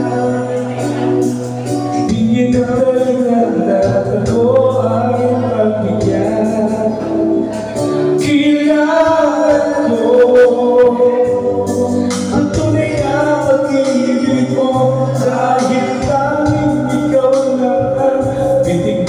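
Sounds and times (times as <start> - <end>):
music backing track: 0.0 - 19.0
people singing through speakers: 0.0 - 19.0.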